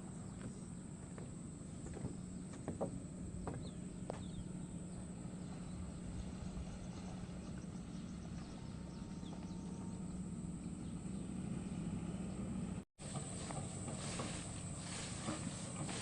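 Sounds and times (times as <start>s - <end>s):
excavator diesel engine humming: 0.0s - 16.0s.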